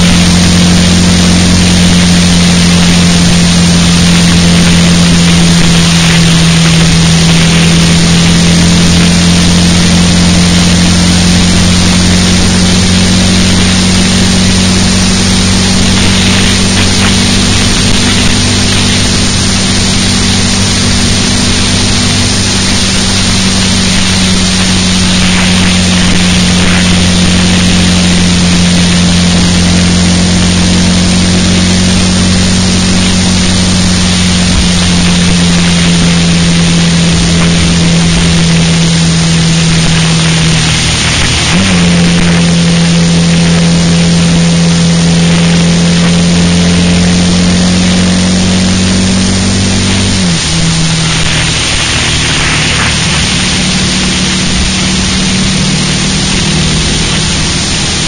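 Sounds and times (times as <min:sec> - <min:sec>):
car engine droning: 0:00.0 - 0:58.0
wind and road noise: 0:00.0 - 0:58.0.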